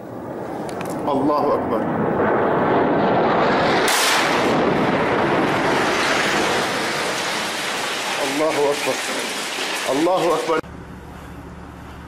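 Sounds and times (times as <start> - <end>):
dense loud noise: 0.0 - 10.7
explosion blast: 0.3 - 10.6.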